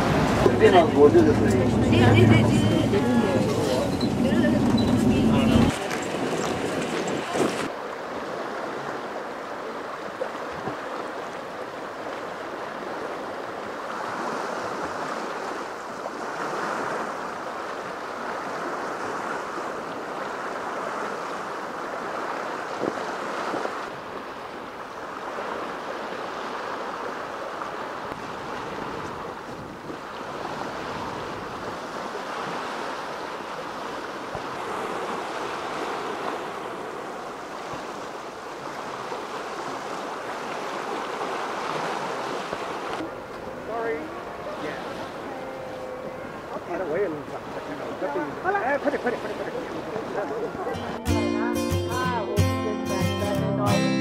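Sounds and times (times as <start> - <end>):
lake waves washing on shore: 0.0 - 51.0
wind: 0.0 - 54.0.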